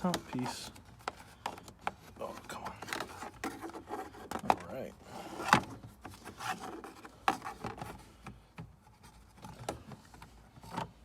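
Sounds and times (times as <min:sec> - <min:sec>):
plastic panels clicking and knocking: 0:00.0 - 0:04.7, 0:05.4 - 0:11.0
plastic rubbing and scraping: 0:00.0 - 0:11.0.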